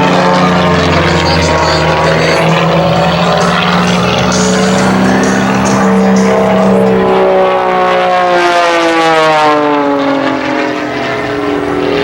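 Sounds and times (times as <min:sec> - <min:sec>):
airplane passing by: 0:00.0 - 0:12.0.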